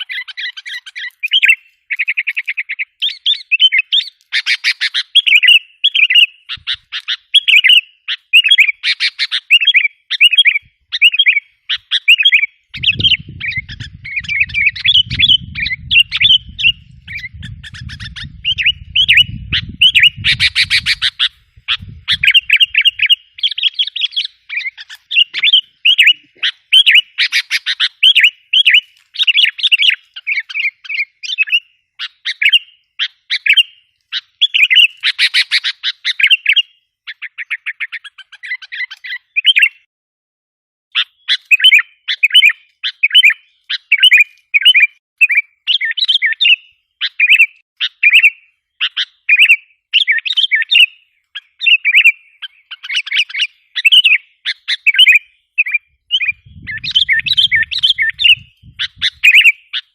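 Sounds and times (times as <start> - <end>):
bulbul chirping song: 0.0 - 39.9, 40.9 - 59.9.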